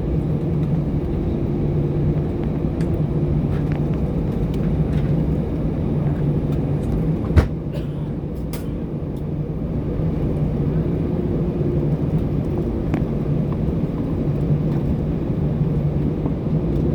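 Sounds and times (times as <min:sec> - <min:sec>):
aircraft engines rumbling in cabin: 0:00.0 - 0:16.9.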